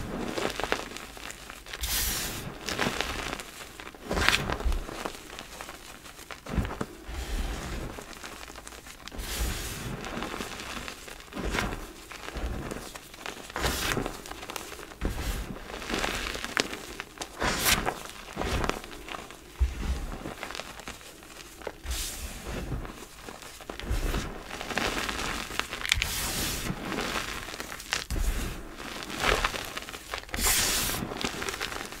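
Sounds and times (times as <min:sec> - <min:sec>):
chalk crunching in hands: 0:00.4 - 0:32.0.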